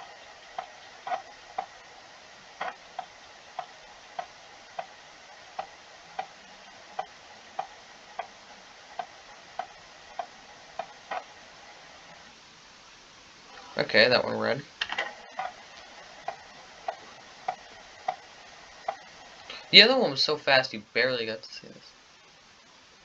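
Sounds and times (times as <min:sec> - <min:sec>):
floppy disk drive clicking: 0:00.0 - 0:12.4, 0:13.6 - 0:20.2.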